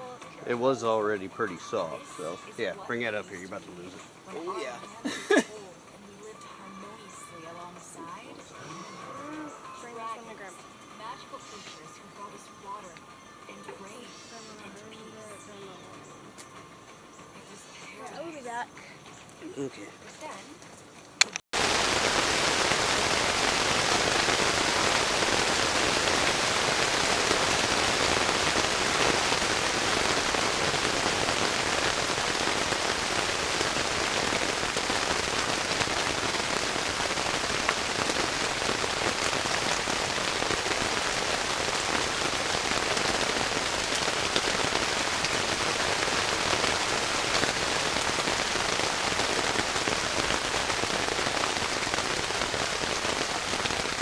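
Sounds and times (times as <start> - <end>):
heavy rain falling: 0.0 - 18.5, 21.3 - 54.0.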